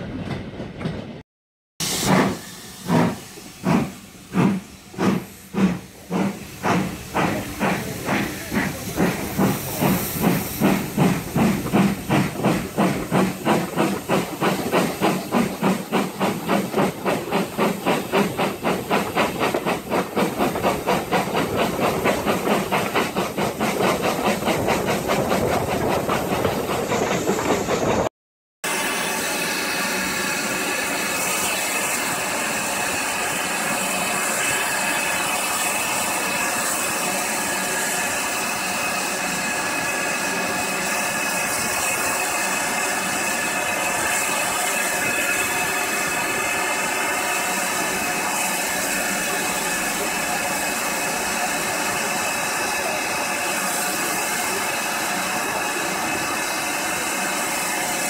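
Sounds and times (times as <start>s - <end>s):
steam locomotive exhaust beating: 1.8s - 28.1s, 28.7s - 58.0s
locomotive hissing steam: 1.8s - 58.0s.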